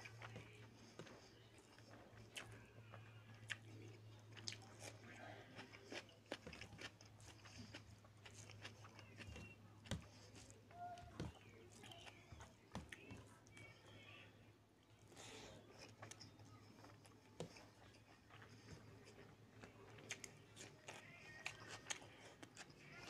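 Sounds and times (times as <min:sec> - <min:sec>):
chewing and mouth smacks: 0:00.0 - 0:13.7, 0:15.0 - 0:23.0
fingers squishing food: 0:00.0 - 0:13.8, 0:15.0 - 0:23.0.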